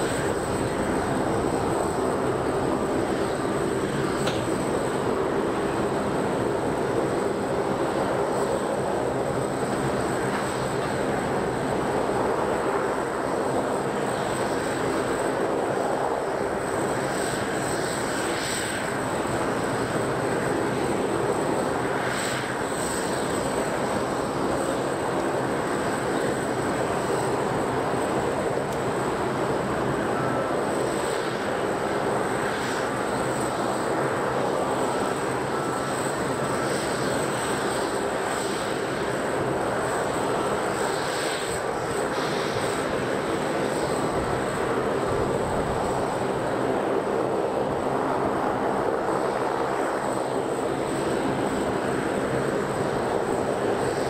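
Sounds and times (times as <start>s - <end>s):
constant broad drone: 0.0s - 54.0s.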